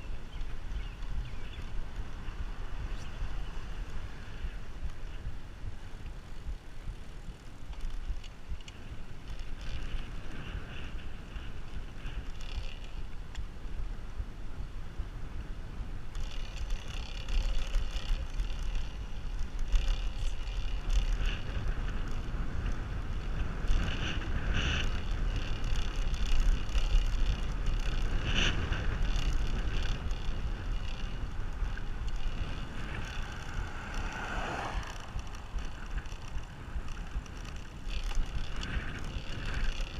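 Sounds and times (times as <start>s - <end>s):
bicycle tyre road noise: 0.0s - 39.9s
wind rumbling on microphone: 0.0s - 39.9s.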